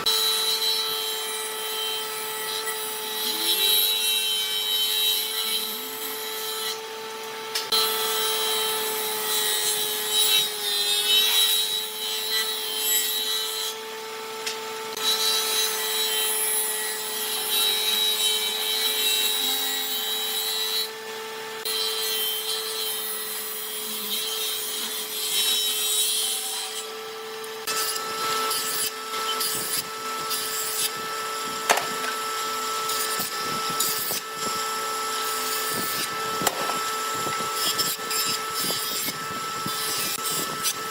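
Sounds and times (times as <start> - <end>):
electric power tool motor: 0.0 - 40.9
rasping wood cutting: 0.0 - 40.9.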